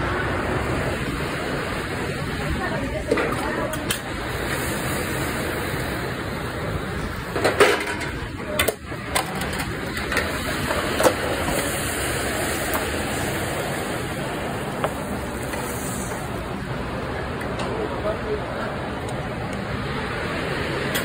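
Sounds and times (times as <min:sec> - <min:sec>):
rushing din of cooking and ventilation: 0:00.0 - 0:21.0.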